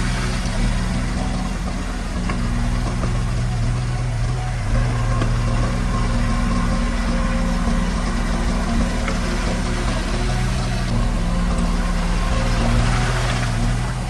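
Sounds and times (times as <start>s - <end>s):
heavy machinery diesel engine: 0.0s - 14.0s.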